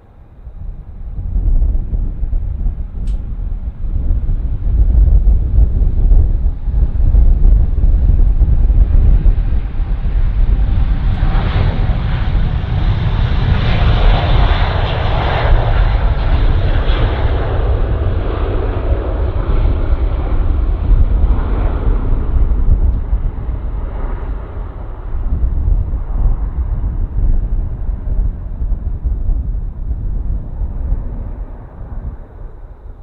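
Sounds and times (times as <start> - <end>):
jet engines rumbling: 0.0 - 33.0.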